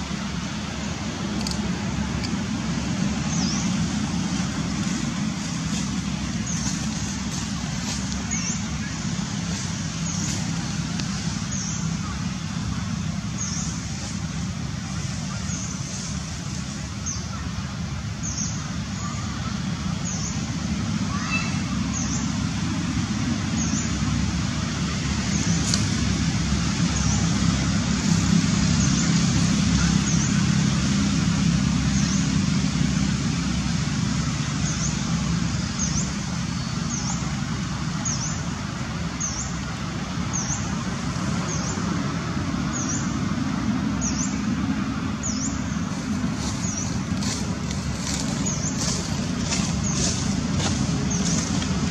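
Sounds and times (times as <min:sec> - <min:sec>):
low outdoor rumble: 0:00.0 - 0:51.9.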